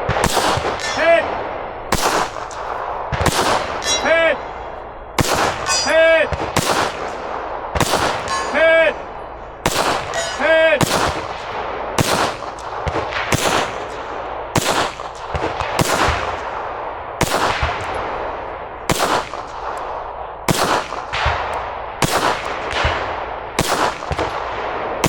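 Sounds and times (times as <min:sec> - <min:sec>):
gunshots with echo: 0:00.0 - 0:25.0.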